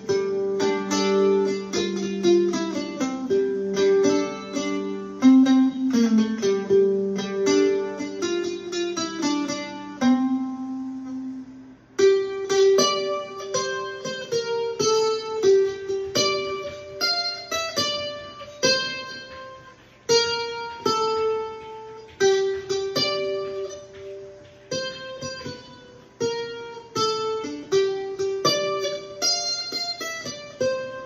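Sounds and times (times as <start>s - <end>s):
mandolin playing jig: 0.0s - 31.0s.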